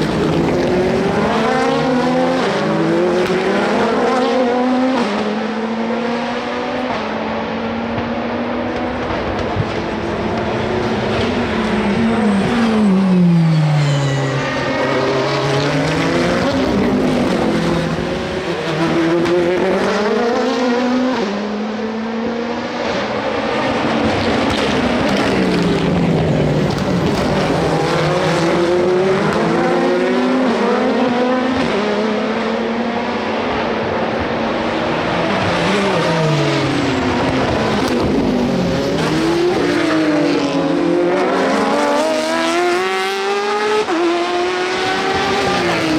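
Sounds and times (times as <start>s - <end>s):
race cars passing: 0.0s - 45.9s.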